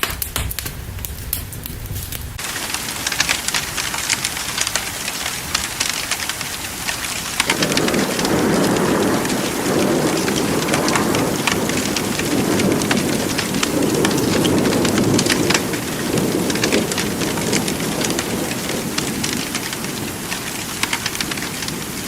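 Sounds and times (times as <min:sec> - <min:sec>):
rolling thunder rumble: 0:00.0 - 0:22.0
steady rain patter: 0:00.0 - 0:22.0.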